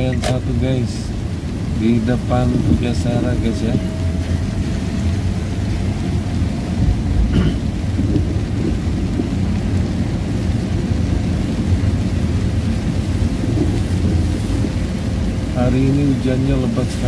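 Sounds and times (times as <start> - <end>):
heavy rain on car: 0.0 - 17.0
tyres on wet road: 0.0 - 17.0.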